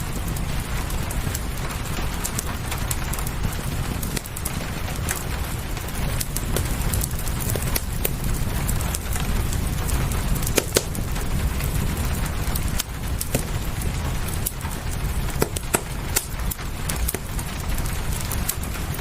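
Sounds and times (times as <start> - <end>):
low rumble: 0.0 - 19.0
rain hissing: 0.0 - 19.0
wood fire crackling and popping: 0.0 - 19.0.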